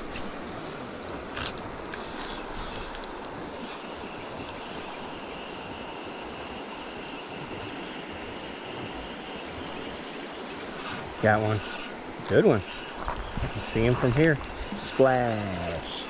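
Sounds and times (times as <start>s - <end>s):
river water rushing over riffle: 0.0s - 16.0s.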